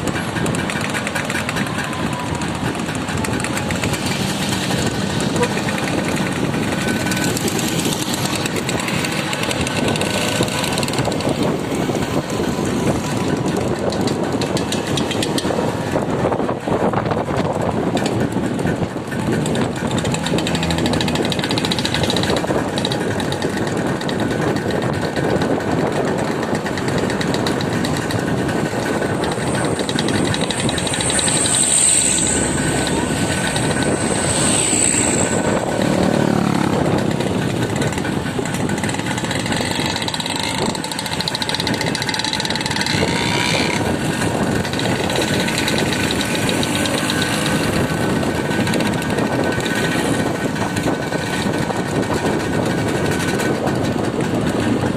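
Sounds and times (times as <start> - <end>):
road noise: 0.0 - 54.9
vehicle engine running: 0.0 - 54.9.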